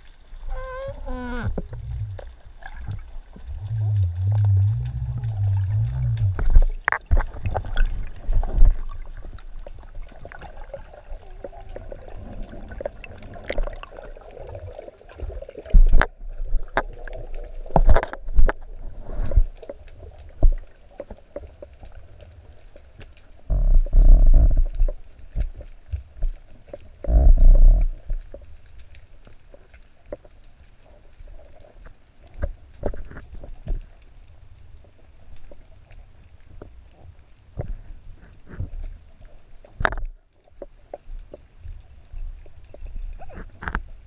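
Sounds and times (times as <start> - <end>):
muffled underwater movement: 0.0 - 44.0.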